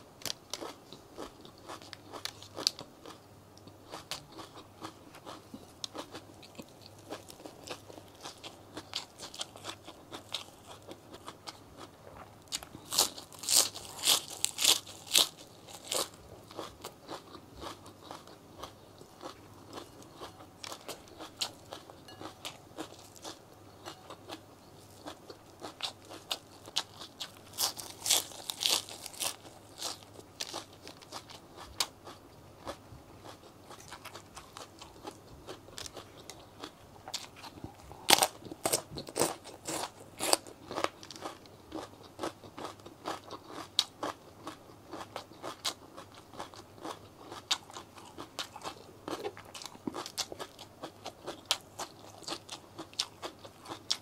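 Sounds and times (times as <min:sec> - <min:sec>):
crunching raw vegetables: 0:00.2 - 0:54.0.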